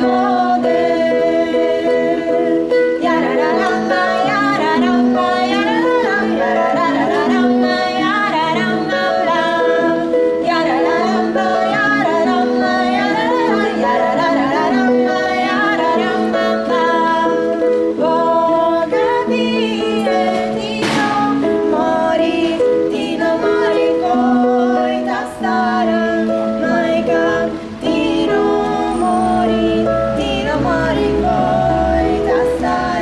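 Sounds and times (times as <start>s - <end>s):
person singing: 0.0s - 33.0s
plucked strings: 0.0s - 33.0s.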